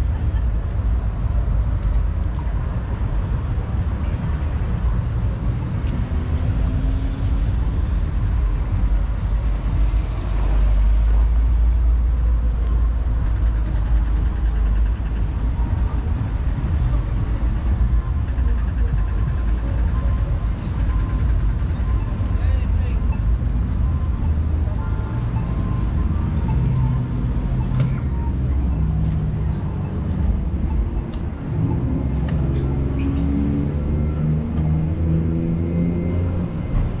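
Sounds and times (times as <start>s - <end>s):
road noise: 0.0s - 37.0s.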